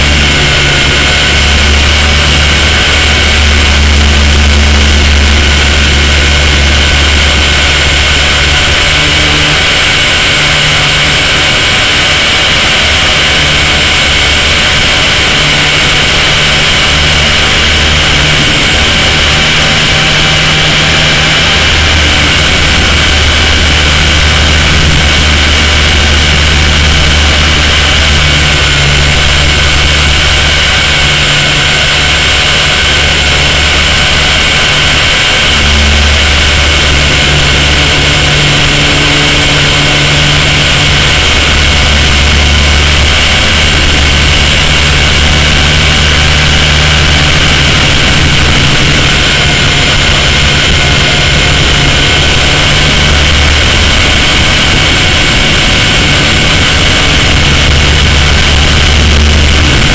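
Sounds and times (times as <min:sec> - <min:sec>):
electric motors whining: 0:00.0 - 0:59.9
low rotor thrum: 0:00.0 - 0:59.9.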